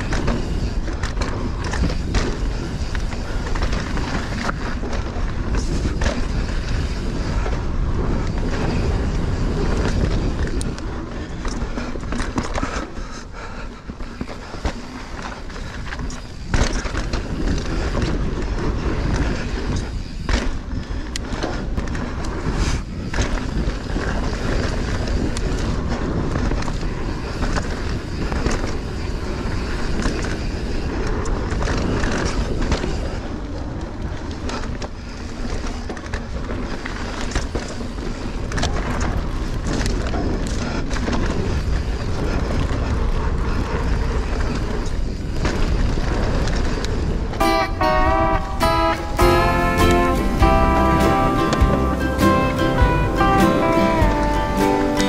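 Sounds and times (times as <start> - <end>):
bike rattling over bumps: 0.0 - 47.5
bike tyre noise on dirt: 0.0 - 55.0.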